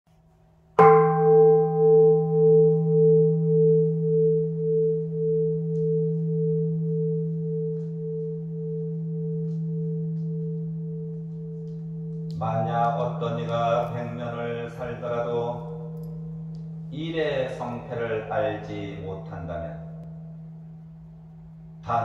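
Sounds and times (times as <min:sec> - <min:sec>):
bowl bell ringing: 0:00.8 - 0:22.0.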